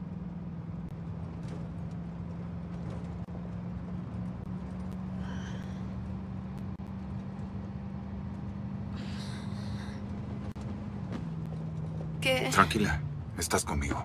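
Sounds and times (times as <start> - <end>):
car engine hum and road noise: 0.0 - 14.0.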